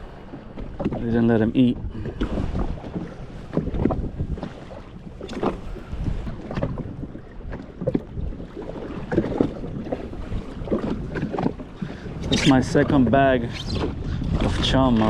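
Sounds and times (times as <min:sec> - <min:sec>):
waves slapping against hull: 0:00.0 - 0:15.0
wind buffeting microphone: 0:00.0 - 0:15.0.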